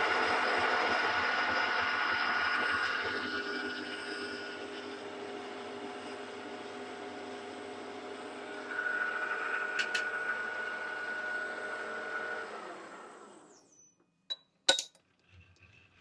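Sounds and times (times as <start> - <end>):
milling machine humming and whining: 0.0 - 13.5.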